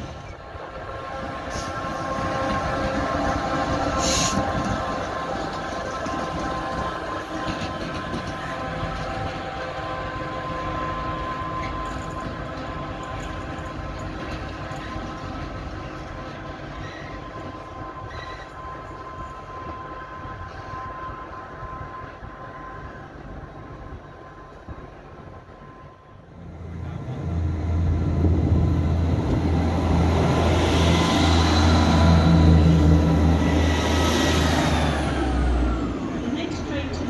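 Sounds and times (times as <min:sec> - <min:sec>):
train whining over rumble: 0:00.0 - 0:37.0.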